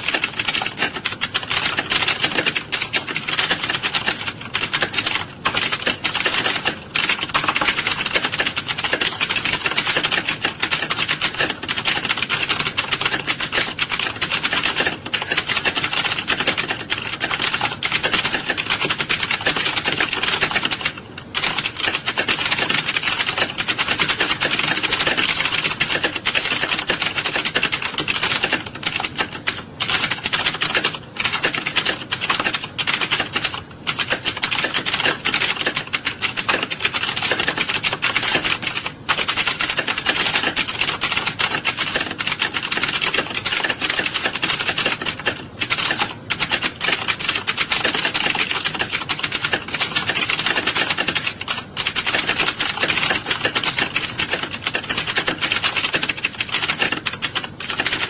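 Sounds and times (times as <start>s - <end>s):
keyboards typing clatter: 0.0s - 58.0s.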